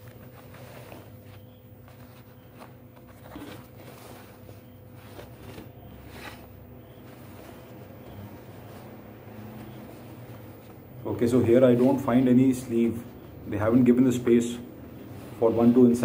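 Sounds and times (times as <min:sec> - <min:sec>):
fabric rustling: 0:00.0 - 0:16.0
low electrical hum: 0:00.0 - 0:16.0.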